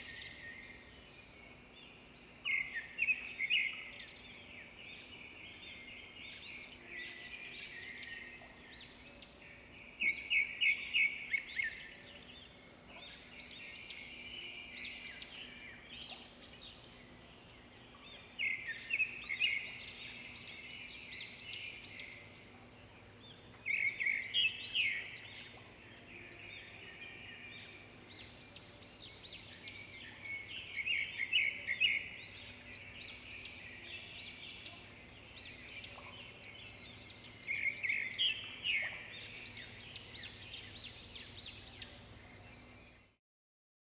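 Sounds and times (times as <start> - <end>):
birds calling and chirping: 0.0 - 43.2.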